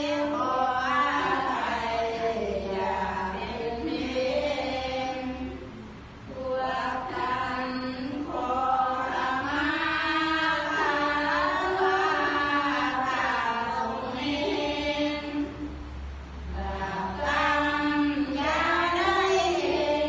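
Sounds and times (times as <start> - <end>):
voices chanting in unison: 0.0 - 20.0.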